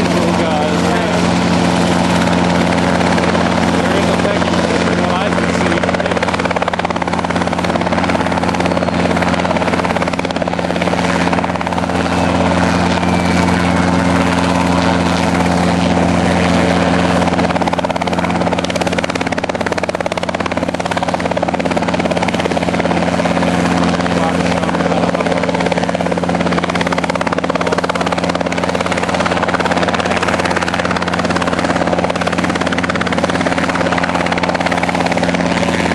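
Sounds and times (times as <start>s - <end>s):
helicopter engine and rotors drone: 0.0s - 35.9s.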